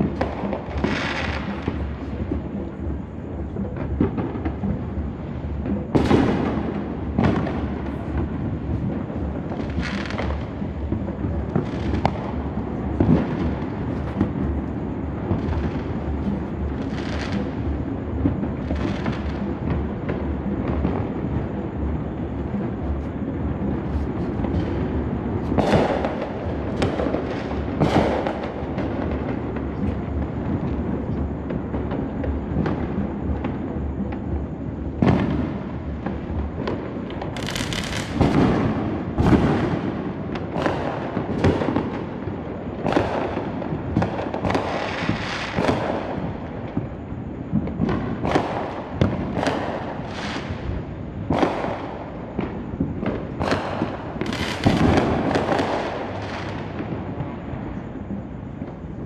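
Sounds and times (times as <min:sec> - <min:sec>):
distant fireworks rumble and crackle: 0:00.0 - 0:59.0
loud firework bursts: 0:00.0 - 0:59.0.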